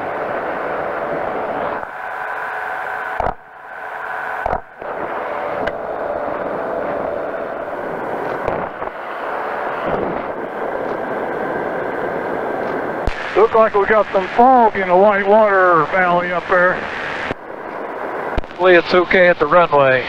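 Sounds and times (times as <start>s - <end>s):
engine and propeller drone: 0.0s - 20.0s.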